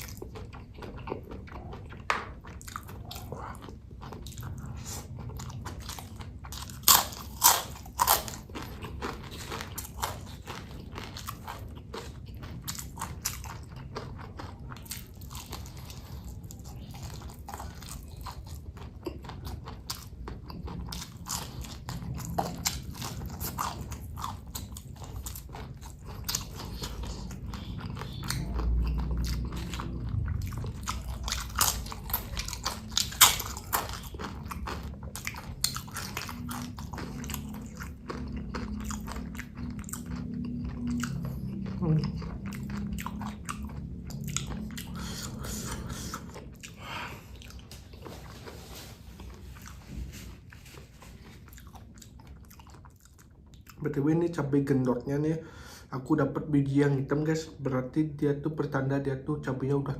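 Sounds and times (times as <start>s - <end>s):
chewing crunchy food: 0.0s - 55.3s.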